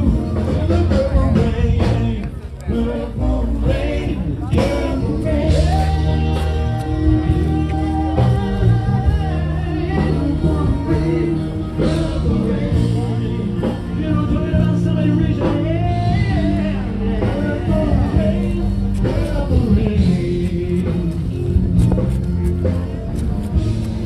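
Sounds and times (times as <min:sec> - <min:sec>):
rock music with singing: 0:00.0 - 0:24.0
steady bass line: 0:00.0 - 0:24.0.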